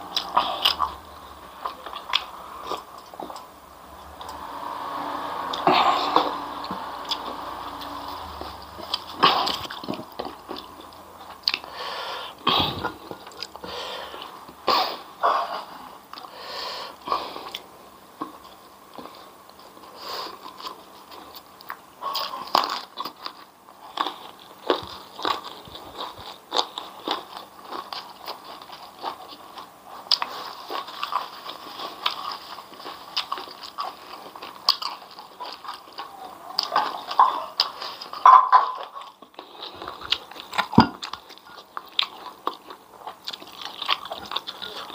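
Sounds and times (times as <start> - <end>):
wet chewing: 0.0 - 3.6, 4.2 - 16.4, 17.0 - 44.9.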